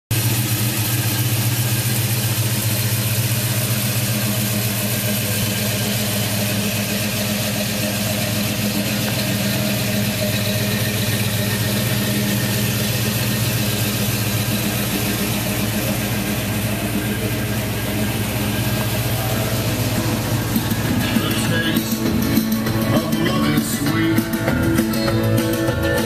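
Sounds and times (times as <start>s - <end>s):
truck engine idling: 0.1s - 26.0s.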